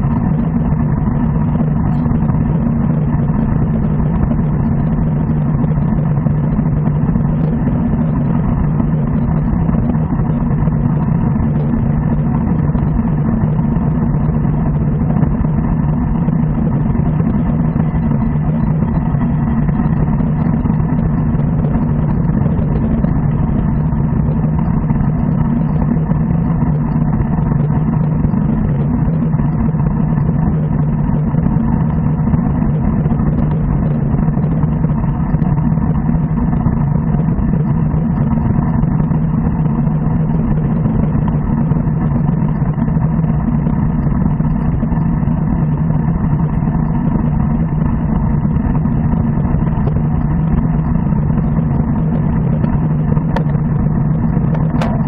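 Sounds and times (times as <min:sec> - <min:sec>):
wind rushing on microphone: 0:00.0 - 0:55.0.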